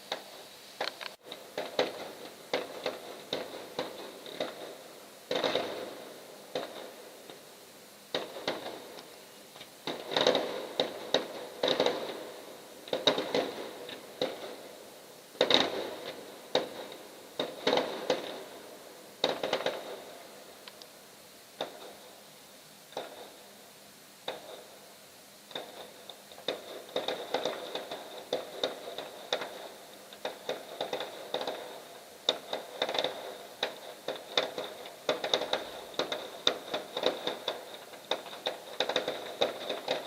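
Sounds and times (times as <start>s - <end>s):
fireworks bursting with bangs: 0.0s - 40.0s.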